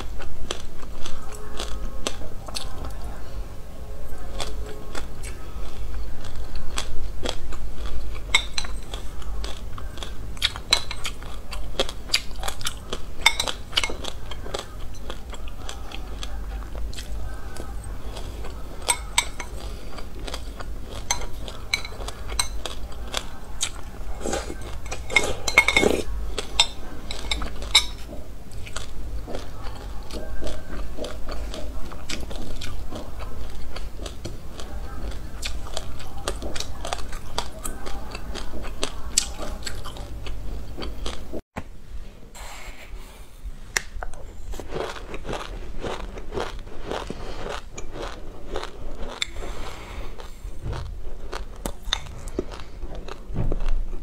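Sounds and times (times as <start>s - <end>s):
chewing and crunching seeds: 0.0s - 41.4s, 43.8s - 54.0s
low steady hum: 0.0s - 54.0s.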